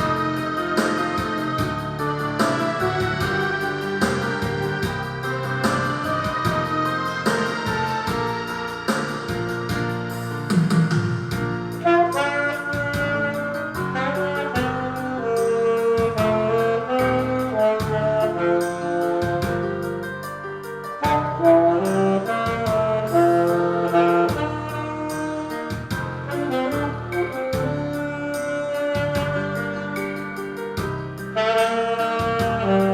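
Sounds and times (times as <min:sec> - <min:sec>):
alto saxophone ballad melody: 0:00.0 - 0:32.9
backing track with steady beat: 0:00.0 - 0:32.9.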